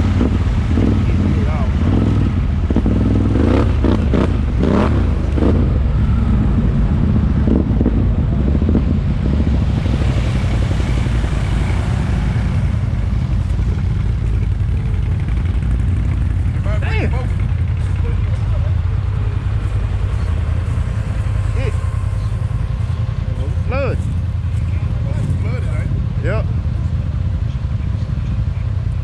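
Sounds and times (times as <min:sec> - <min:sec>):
atv engine droning: 0:00.0 - 0:29.0.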